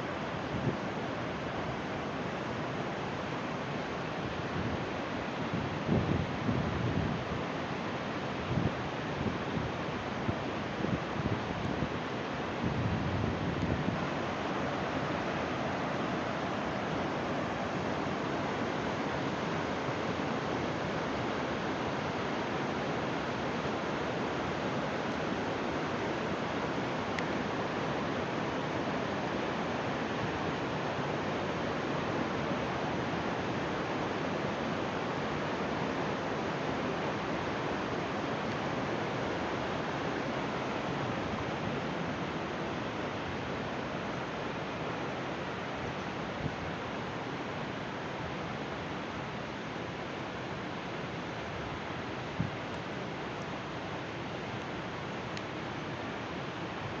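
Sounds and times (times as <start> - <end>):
waterfall rushing: 7.1 - 57.0.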